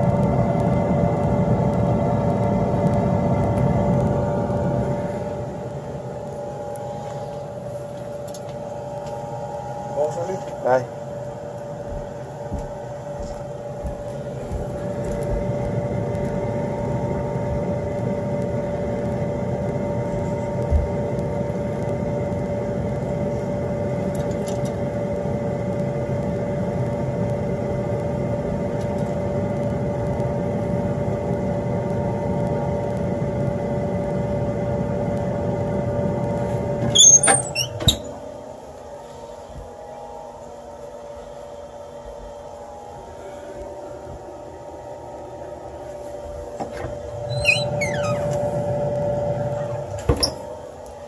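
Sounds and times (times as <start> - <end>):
stove fans humming: 0.0 - 51.0.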